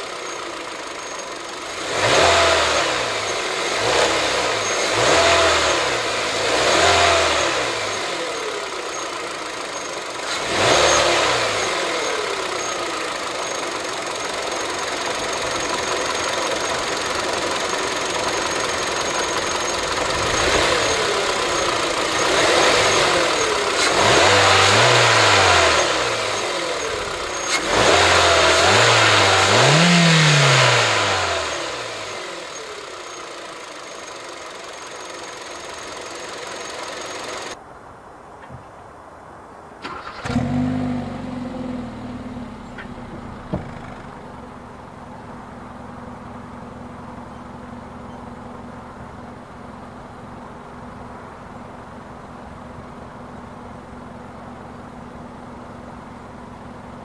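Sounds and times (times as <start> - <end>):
car engine idling and revving: 0.0 - 37.6, 39.8 - 57.0.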